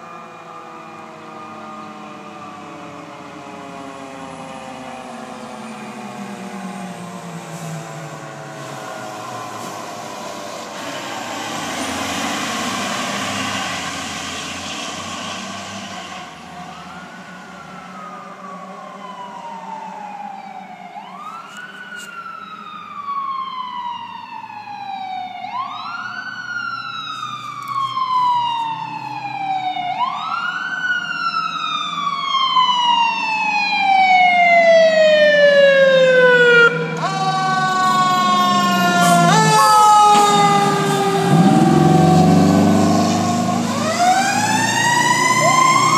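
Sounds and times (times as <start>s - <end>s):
fire truck siren wailing: 0.0s - 45.9s.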